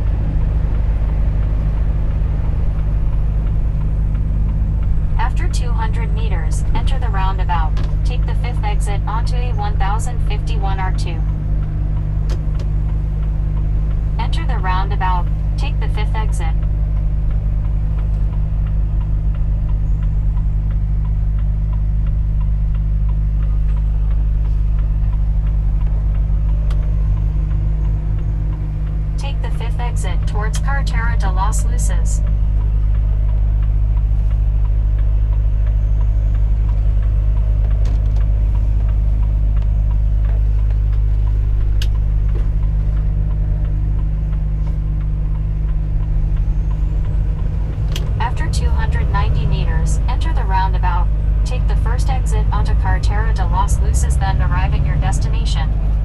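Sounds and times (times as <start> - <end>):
diesel truck engine running: 0.0 - 56.0
turn signal ticking: 0.0 - 56.0.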